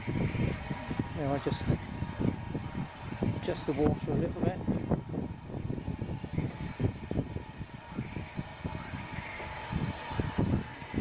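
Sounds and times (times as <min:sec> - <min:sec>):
steam injector hissing: 0:00.0 - 0:11.0.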